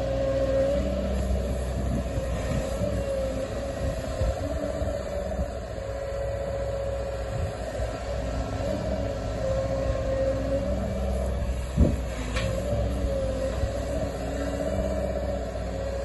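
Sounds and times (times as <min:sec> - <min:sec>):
excavator engine rumble: 0:00.0 - 0:16.0
steady whining tone: 0:00.0 - 0:16.0.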